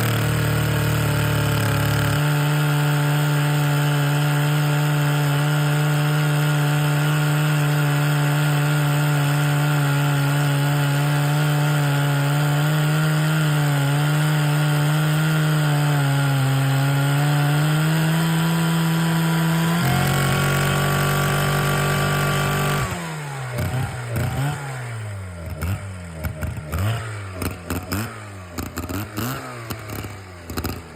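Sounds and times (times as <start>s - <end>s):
chainsaw engine revving: 0.0s - 30.9s.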